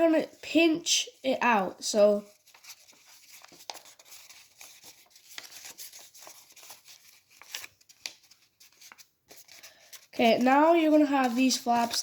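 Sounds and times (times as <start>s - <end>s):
paper rustling and crinkling: 2.2s - 12.0s.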